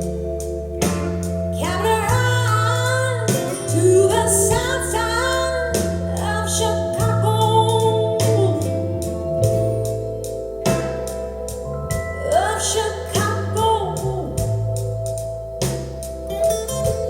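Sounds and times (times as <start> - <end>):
slow music over loudspeakers: 0.0 - 17.0.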